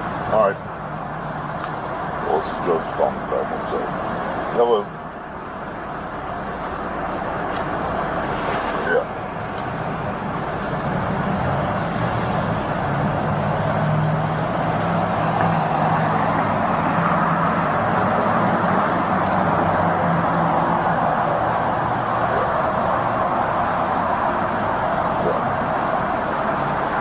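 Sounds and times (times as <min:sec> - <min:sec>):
road traffic with engine hum: 0:00.0 - 0:27.0.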